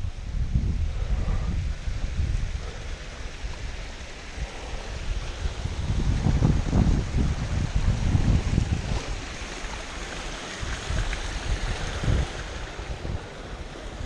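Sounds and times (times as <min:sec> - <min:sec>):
wind buffeting microphone: 0:00.0 - 0:14.0
water rushing over rocks: 0:00.1 - 0:14.0.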